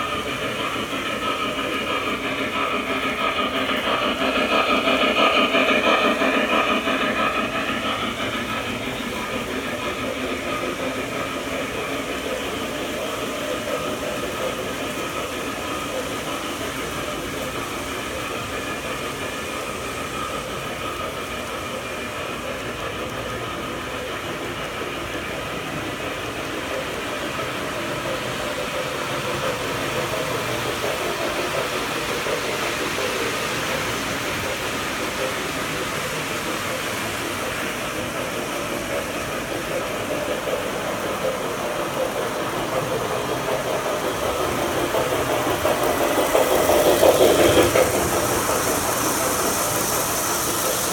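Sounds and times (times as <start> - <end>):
model train wheels rolling on rails: 0.0 - 50.9.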